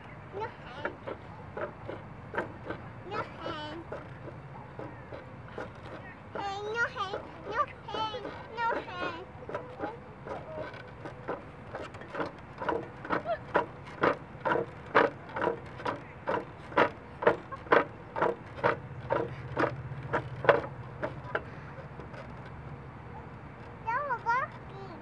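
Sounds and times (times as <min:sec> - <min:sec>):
spring rider creaking: 0:00.0 - 0:25.0.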